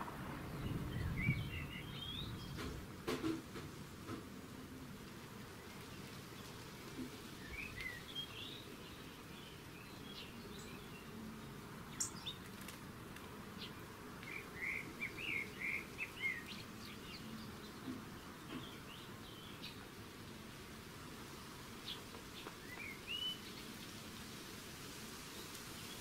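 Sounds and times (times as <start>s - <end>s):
sparrows chirping: 0.2s - 3.0s, 4.8s - 24.3s.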